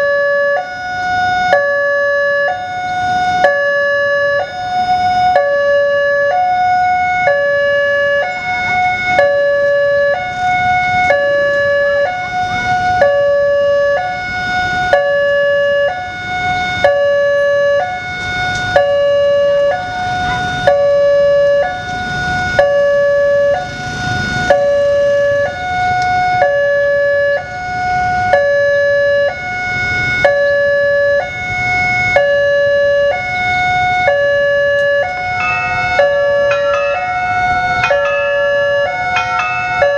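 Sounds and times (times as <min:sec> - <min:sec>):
two-tone level-crossing siren: 0:00.0 - 0:39.9.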